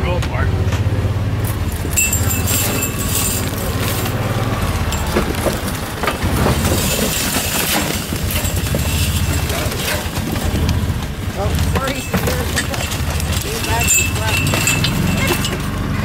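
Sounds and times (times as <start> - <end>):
vehicle engine drone: 0.0 - 16.0
vehicle body rattling: 0.8 - 16.0.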